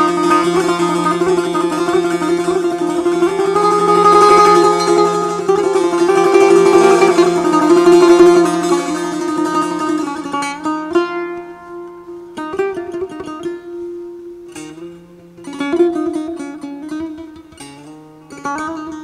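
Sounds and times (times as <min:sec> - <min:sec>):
plucked lutes playing: 0:00.0 - 0:19.0.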